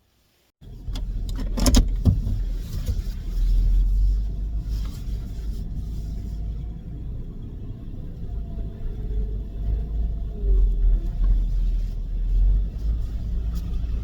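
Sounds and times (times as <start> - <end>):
car road and engine rumble: 0.2 - 14.0.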